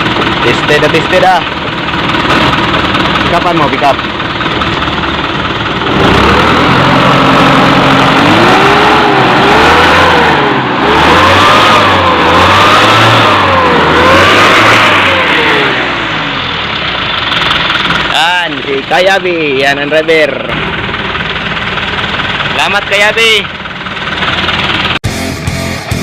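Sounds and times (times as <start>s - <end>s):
vehicle engine revving: 0.0s - 18.7s, 20.4s - 26.0s.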